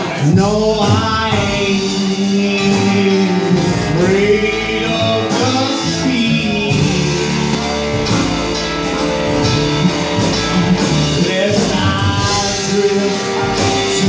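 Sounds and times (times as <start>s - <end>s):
drum: 0.0s - 14.0s
electric guitar: 0.0s - 14.0s
upright bass: 0.0s - 14.0s.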